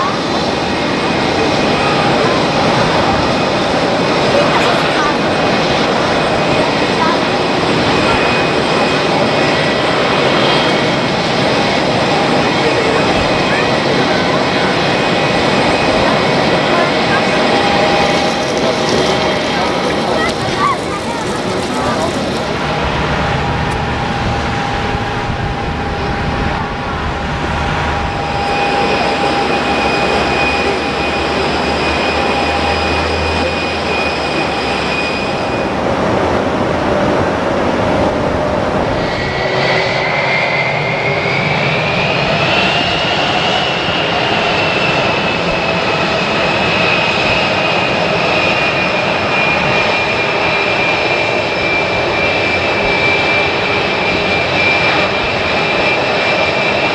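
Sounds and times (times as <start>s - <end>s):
high whine: 0.0s - 56.9s
jet engines running: 0.0s - 56.9s.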